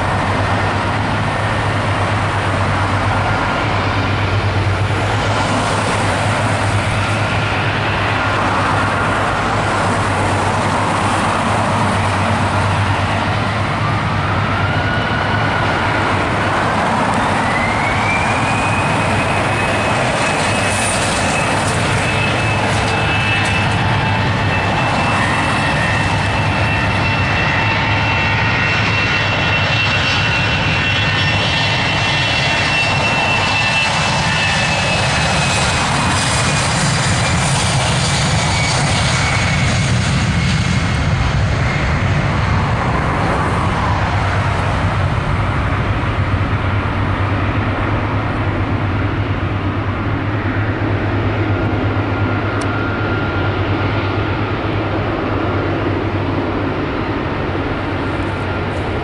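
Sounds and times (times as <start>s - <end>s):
loud rush of noise: 0.0s - 29.7s, 31.6s - 59.0s
jet engines spooling up: 0.0s - 59.0s.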